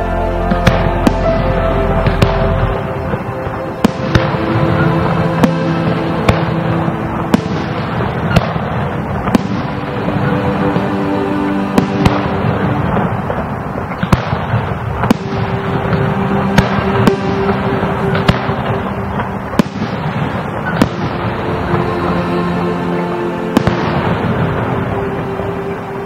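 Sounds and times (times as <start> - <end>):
firework crackling: 0.0 - 26.0
music with low sustained notes: 0.0 - 26.0
firework shells bursting: 0.5 - 22.3.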